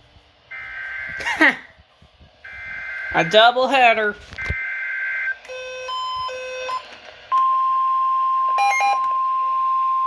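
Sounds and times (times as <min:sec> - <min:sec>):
steady alarm tone: 0:00.5 - 0:01.4, 0:02.4 - 0:10.0.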